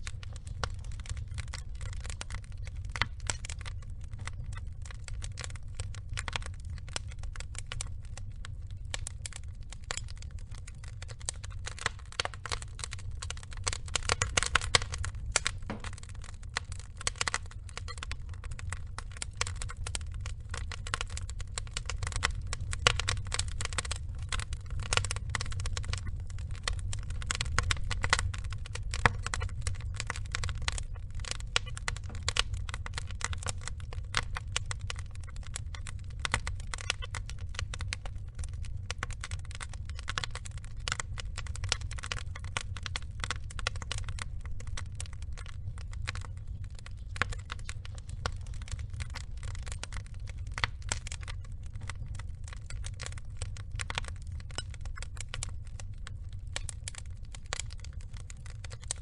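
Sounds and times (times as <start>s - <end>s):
burning wood crackling and popping: 0.0s - 59.0s
flames rumbling: 0.0s - 59.0s.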